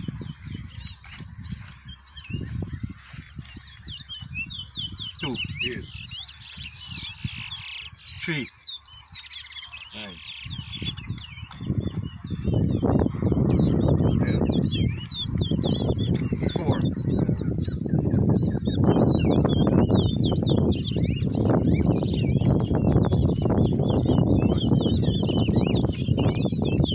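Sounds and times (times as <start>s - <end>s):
finch chirping song: 0.0s - 26.9s.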